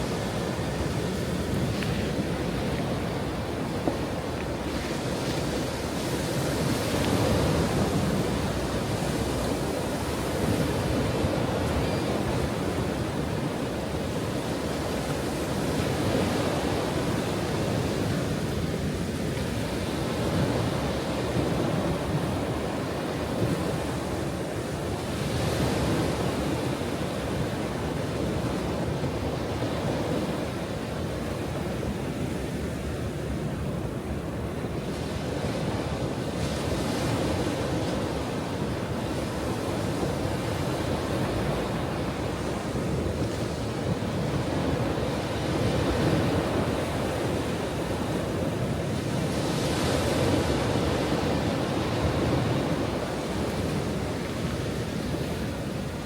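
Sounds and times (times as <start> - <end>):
ocean waves breaking on shore: 0.0 - 56.0
wind on microphone: 0.0 - 56.0.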